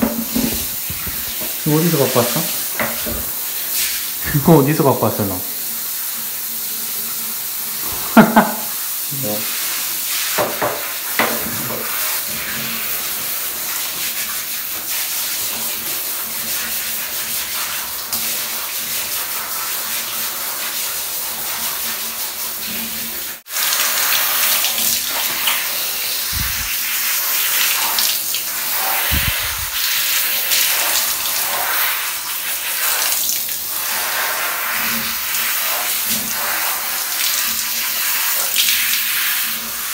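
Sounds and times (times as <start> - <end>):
shower spray hissing: 0.0 - 39.9.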